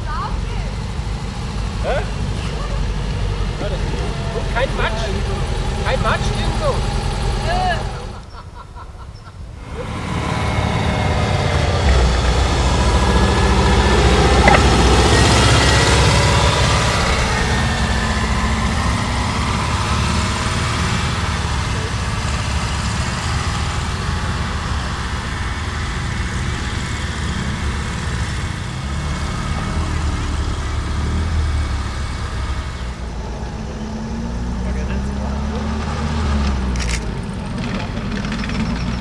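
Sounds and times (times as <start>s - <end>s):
air-cooled engine running: 0.0s - 8.3s, 9.6s - 39.0s.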